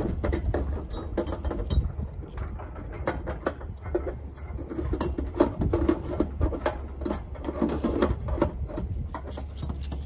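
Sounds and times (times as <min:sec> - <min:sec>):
clatter of clicks and rattles: 0:00.0 - 0:10.0.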